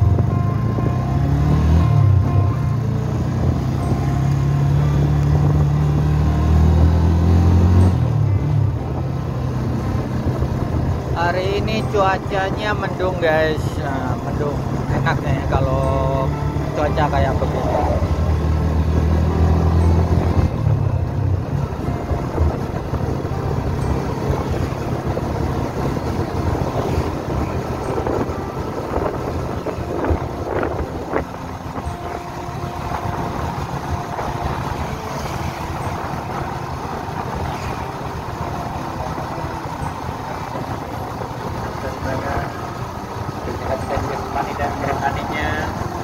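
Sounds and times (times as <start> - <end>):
motorcycle engine running: 0.0 - 46.0
road and wind noise: 0.0 - 46.0.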